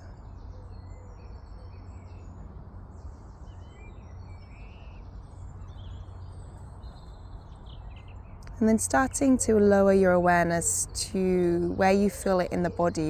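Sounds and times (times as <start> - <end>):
small birds chirping and trilling: 0.0 - 13.0.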